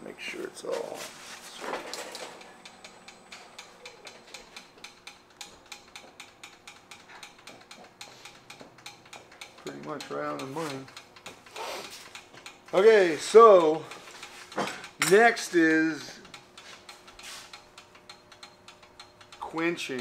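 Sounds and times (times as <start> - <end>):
mechanical ticking: 2.0 - 20.0.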